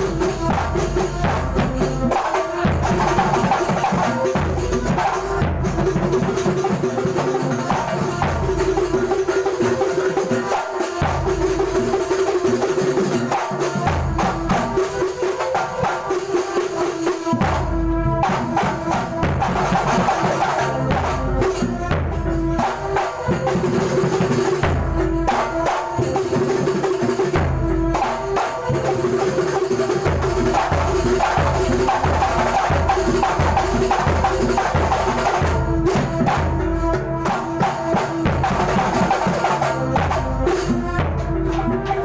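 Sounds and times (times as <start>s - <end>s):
frame drums: 0.0s - 42.0s.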